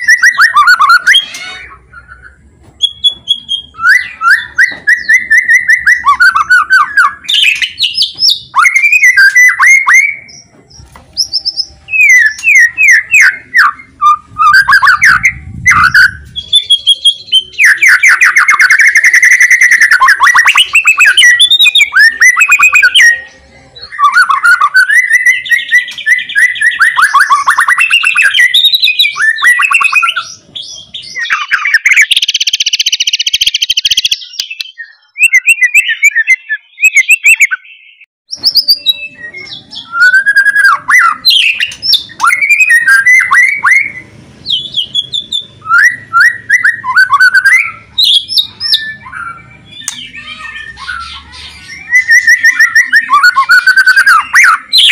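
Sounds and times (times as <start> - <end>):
bird whistling song: 0.0 - 54.9.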